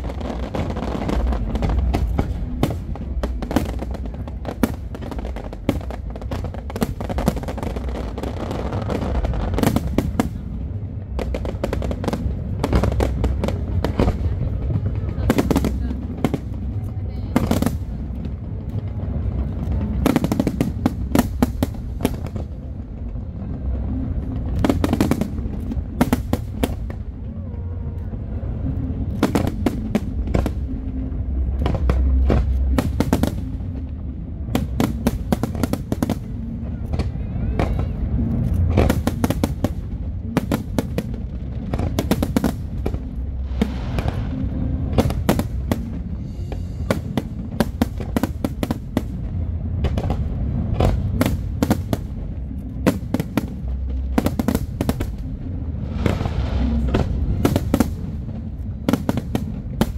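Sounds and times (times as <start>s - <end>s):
continuous low rumble: 0.0s - 59.9s
fireworks bangs and crackles: 0.0s - 59.9s.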